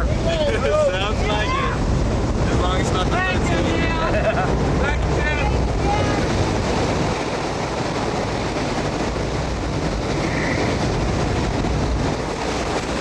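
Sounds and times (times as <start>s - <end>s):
aircraft engine rushing: 0.0s - 13.0s
wind noise: 0.0s - 13.0s.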